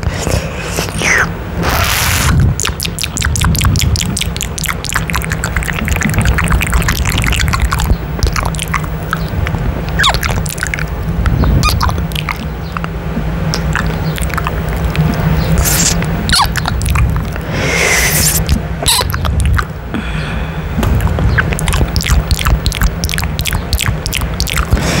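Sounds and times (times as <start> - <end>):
steady low rumble: 0.0 - 25.0
kisses and lip smacks: 0.8 - 17.4, 18.0 - 19.7, 20.8 - 24.8.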